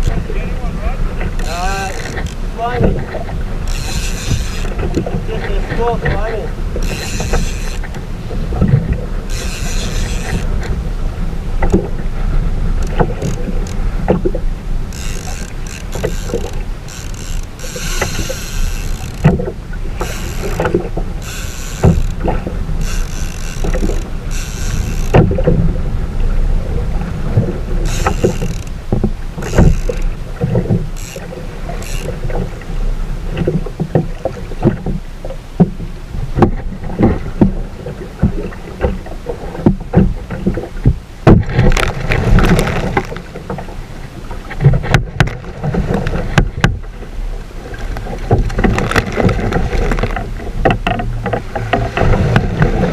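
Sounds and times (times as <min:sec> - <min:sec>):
water splashing against kayak hull: 0:00.0 - 0:52.9.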